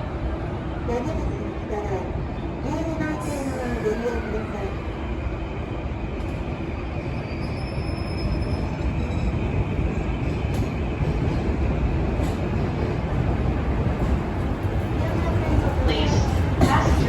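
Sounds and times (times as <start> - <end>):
train wheels rumbling on rail: 0.1 - 17.0.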